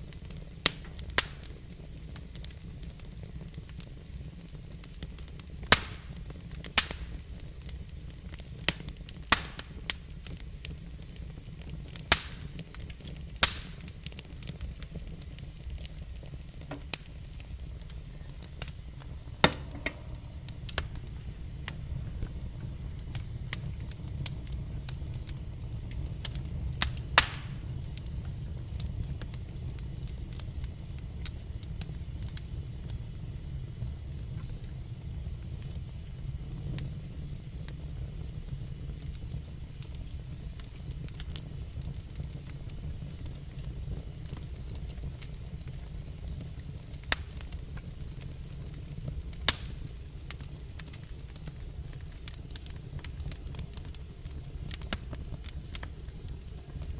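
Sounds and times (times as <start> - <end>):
fire low rumble: 0.0 - 56.9
logs crackling and popping: 0.0 - 56.9.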